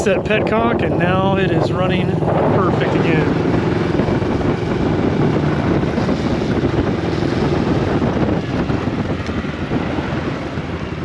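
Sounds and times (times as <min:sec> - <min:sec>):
wind on microphone: 0:00.0 - 0:11.0
small motorcycle engine running: 0:01.0 - 0:11.0.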